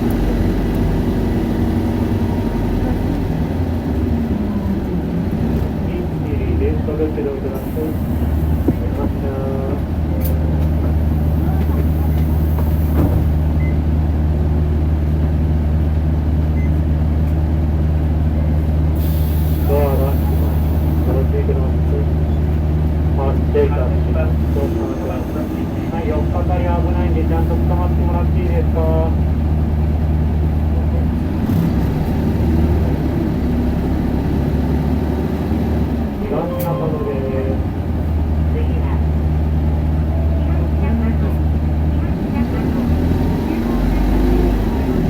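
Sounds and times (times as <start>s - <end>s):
bus diesel engine droning: 0.0s - 45.0s.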